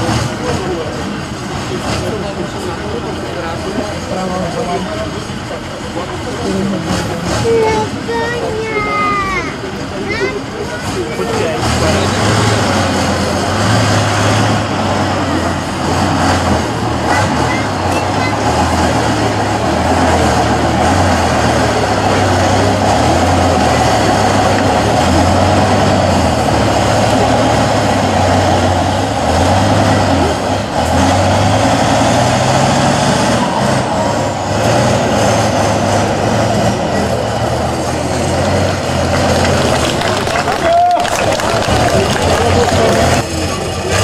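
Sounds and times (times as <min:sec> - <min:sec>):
diesel truck engine revving: 0:00.0 - 0:44.0.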